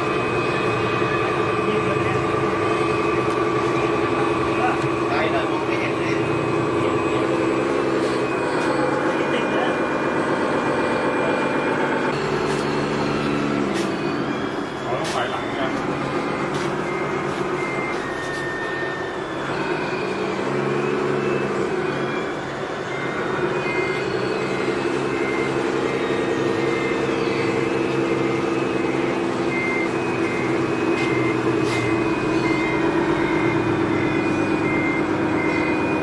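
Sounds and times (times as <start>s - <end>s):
diesel engine of heavy machine running: 0.0s - 36.0s
reversing alarm beeping: 0.0s - 36.0s.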